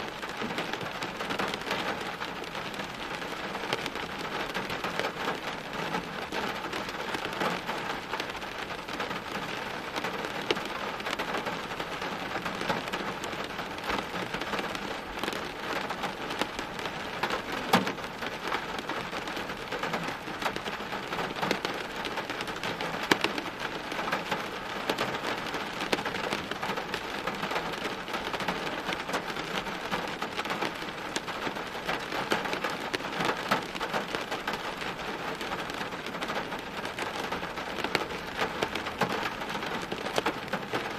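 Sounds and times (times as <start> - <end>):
heavy rain on hard surfaces: 0.0 - 40.9.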